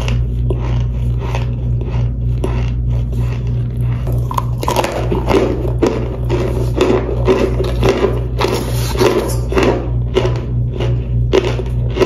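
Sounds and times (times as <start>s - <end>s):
crunchy chewing: 0.0s - 12.0s
low hum: 0.0s - 12.0s.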